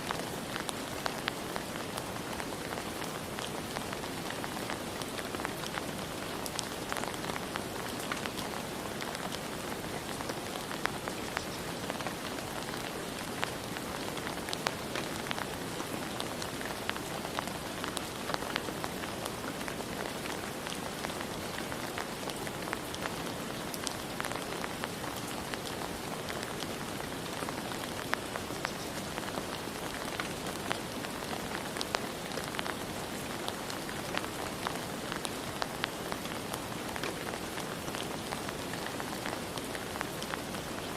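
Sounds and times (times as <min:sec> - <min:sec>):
rain hiss: 0:00.0 - 0:40.9
raindrops ticking: 0:00.1 - 0:40.9.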